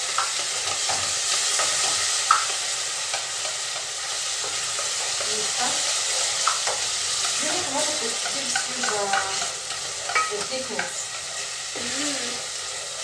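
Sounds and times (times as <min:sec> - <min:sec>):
vegetables sizzling in a pot: 0:00.0 - 0:13.0.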